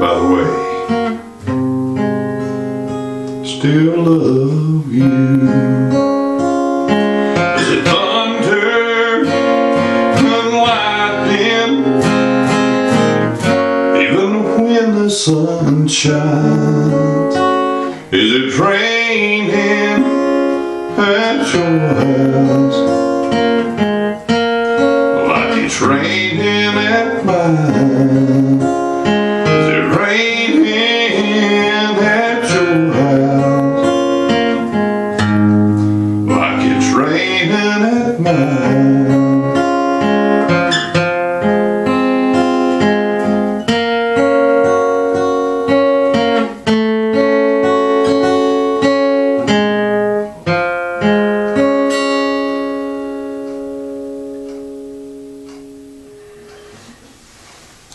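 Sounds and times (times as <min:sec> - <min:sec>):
acoustic guitar strumming chords: 0:00.0 - 0:57.9.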